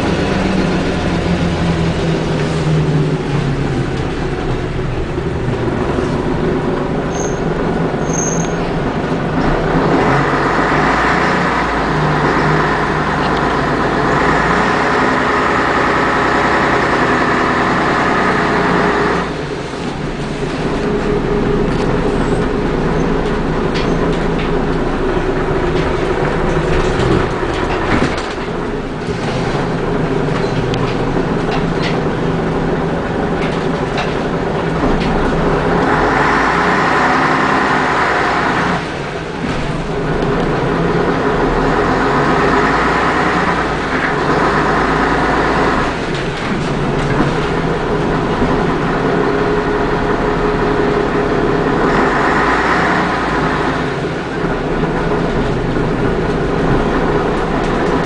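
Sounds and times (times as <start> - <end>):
bus diesel engine: 0.0 - 58.0
engine whine: 0.0 - 58.0.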